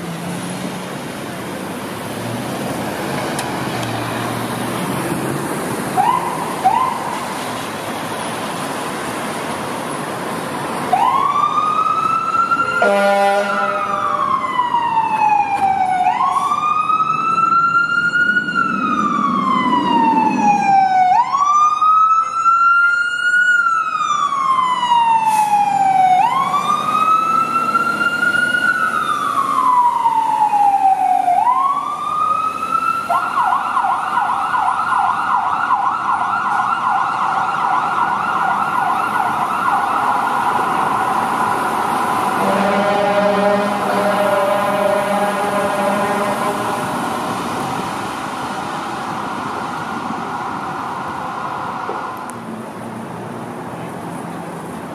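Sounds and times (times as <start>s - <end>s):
fire engine siren wailing: 0.0s - 52.5s.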